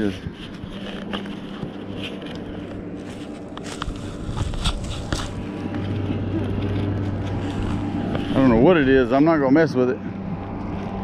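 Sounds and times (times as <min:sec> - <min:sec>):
footsteps crunching on gravel: 0:00.0 - 0:11.0
steady low hum: 0:00.0 - 0:11.0.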